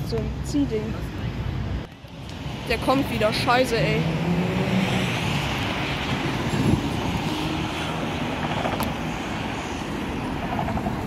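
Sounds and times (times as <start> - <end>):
cars driving past: 0.6 - 11.0.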